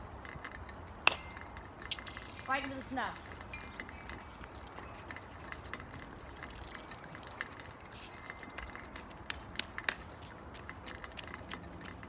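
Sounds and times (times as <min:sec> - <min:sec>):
faint clicks and ticks: 0:00.0 - 0:12.0.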